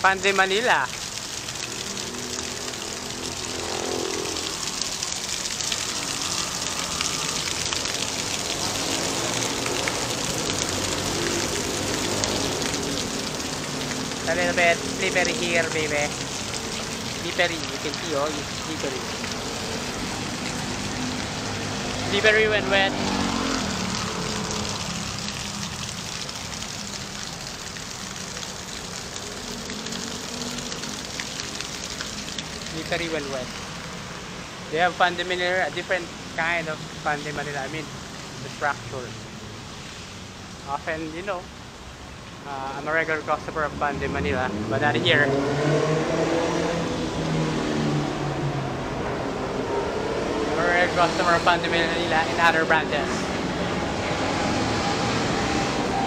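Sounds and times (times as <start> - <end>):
raindrops ticking: 0.0 - 45.2, 50.6 - 53.7
fountain water splashing: 0.0 - 56.0
rain hissing on paving: 0.0 - 56.0.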